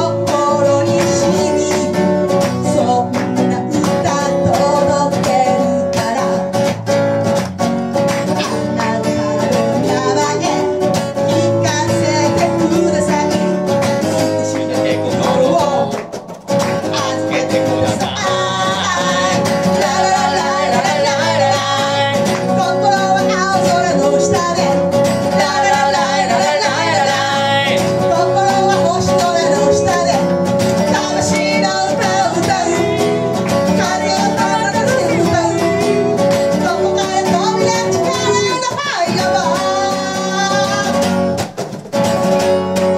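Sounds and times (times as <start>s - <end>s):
woman singing blues-rock: 0.0s - 6.7s, 8.2s - 16.0s, 16.7s - 41.4s
guitar: 0.0s - 42.9s.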